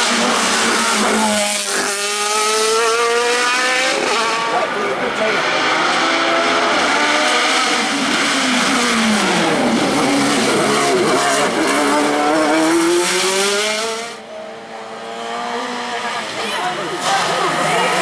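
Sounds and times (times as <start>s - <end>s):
racing car engine: 0.0s - 18.0s.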